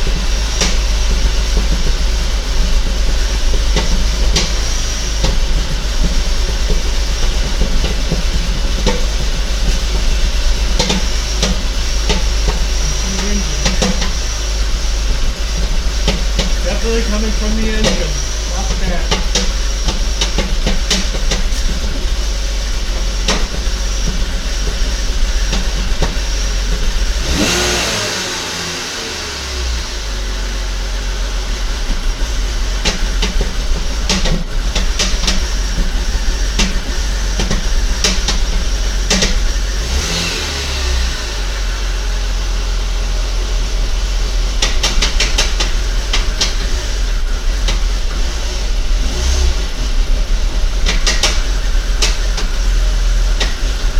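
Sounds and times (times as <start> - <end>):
engine knocking clicks: 0.0 - 28.0, 31.2 - 40.2, 43.2 - 53.9
car engine running: 0.0 - 53.9
engine revving: 0.0 - 53.9.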